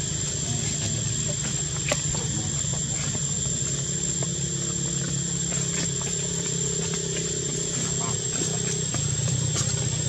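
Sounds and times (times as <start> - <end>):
low engine-like drone: 0.0 - 10.0.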